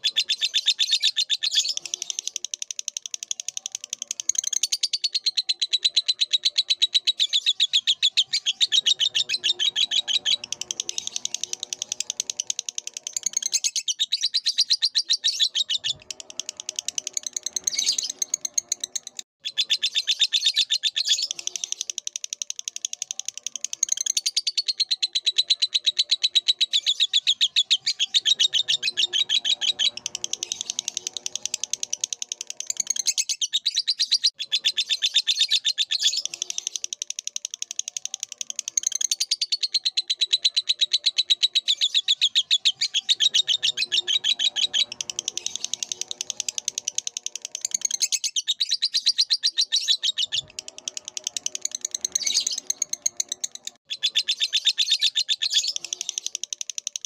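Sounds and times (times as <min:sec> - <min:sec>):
lovebird chattering trill: 0:00.0 - 0:57.0.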